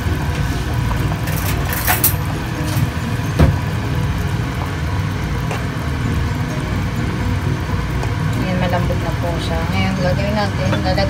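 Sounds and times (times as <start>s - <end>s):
pot bubbling at rolling boil: 0.0s - 11.0s.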